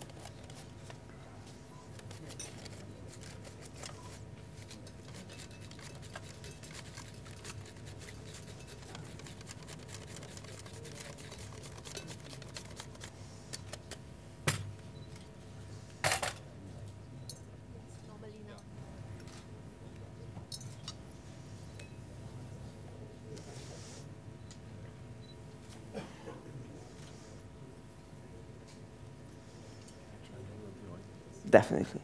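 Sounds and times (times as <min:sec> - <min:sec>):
low room hum: 0:00.0 - 0:32.0.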